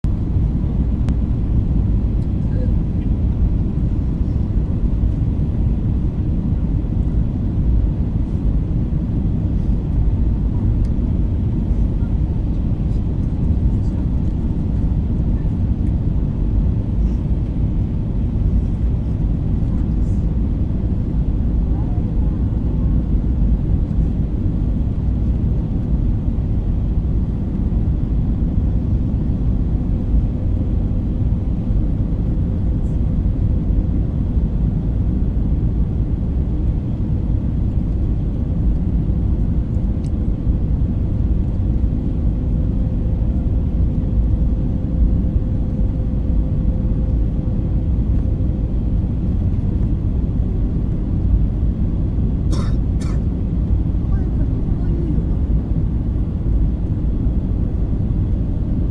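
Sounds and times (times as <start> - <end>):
airliner cabin rumble: 0.0 - 58.9.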